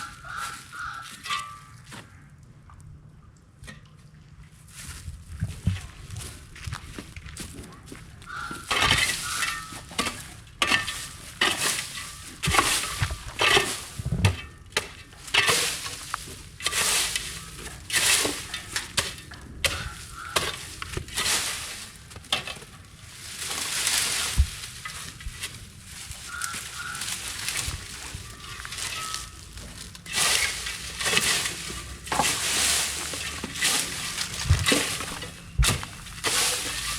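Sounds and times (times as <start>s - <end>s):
dry stalks rustling and crunching: 0.0s - 2.9s, 4.1s - 36.9s.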